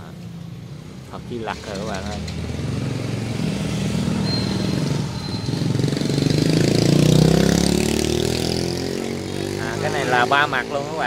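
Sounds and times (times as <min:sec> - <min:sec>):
motorbike engine passing: 0:01.1 - 0:11.0.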